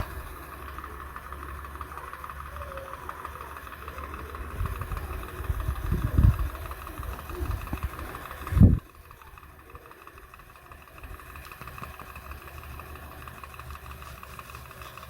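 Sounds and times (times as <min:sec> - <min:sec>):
small motor ticking rattle: 0:00.0 - 0:15.0.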